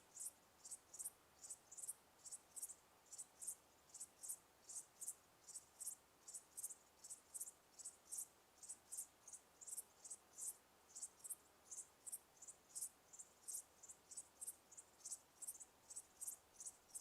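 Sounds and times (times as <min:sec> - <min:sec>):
faint hiss: 0:00.0 - 0:17.0
cricket chirping: 0:00.1 - 0:17.0.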